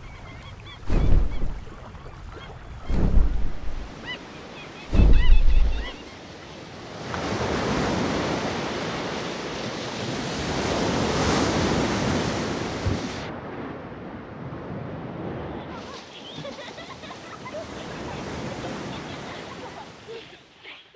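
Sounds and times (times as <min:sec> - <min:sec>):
ocean surf washing in: 0:00.9 - 0:01.8, 0:02.8 - 0:04.2, 0:04.8 - 0:06.2, 0:06.8 - 0:20.2.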